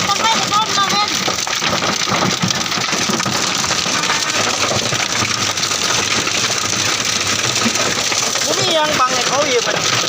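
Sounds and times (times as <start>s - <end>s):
hail and rain on vehicle: 0.0s - 10.0s.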